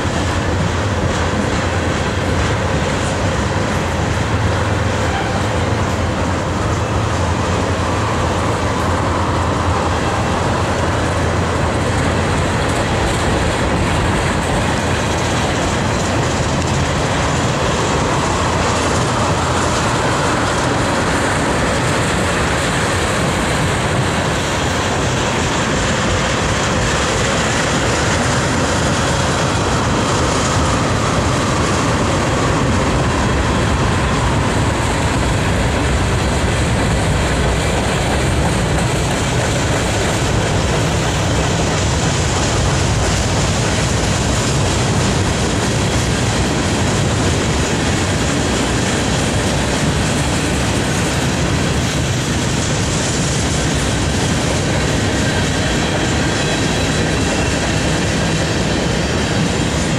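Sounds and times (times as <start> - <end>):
freight train rumbling and clattering: 0.0 - 59.9.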